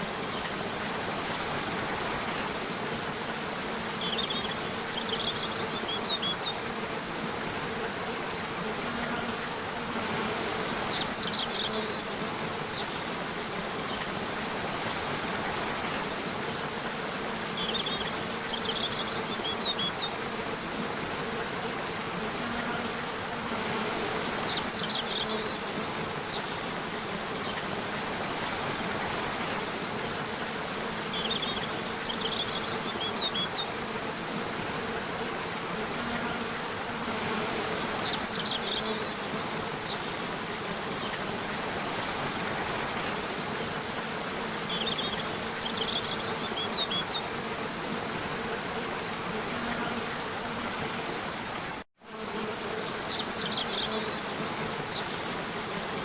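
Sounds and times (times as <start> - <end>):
insect buzzing: 0.0 - 56.0
rushing water-like hiss: 0.0 - 56.0.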